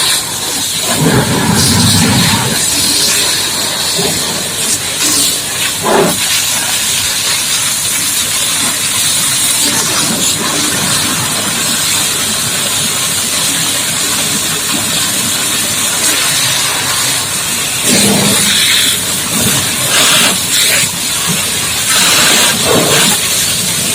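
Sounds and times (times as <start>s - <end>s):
high-pressure water jet hissing: 0.0s - 23.9s.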